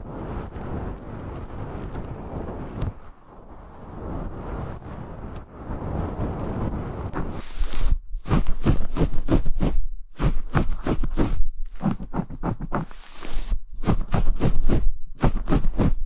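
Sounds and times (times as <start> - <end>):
scratchy scrubbing on microphone: 0.0 - 16.0.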